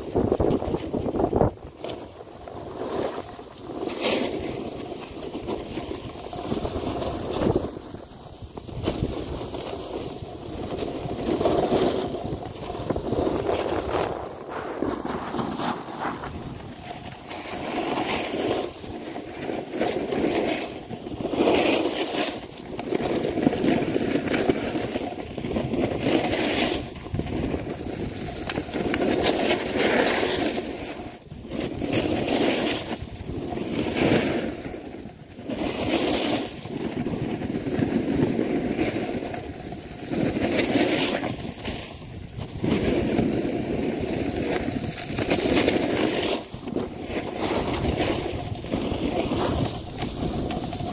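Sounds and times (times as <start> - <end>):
wind rushing over microphone: 0.0 - 3.4, 5.4 - 19.0, 22.4 - 50.9
snowboard scraping over snow: 0.0 - 50.9.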